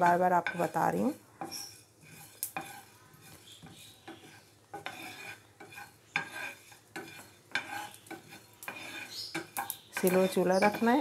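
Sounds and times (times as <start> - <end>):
spoon stirring seeds in a pan: 0.0 - 11.0.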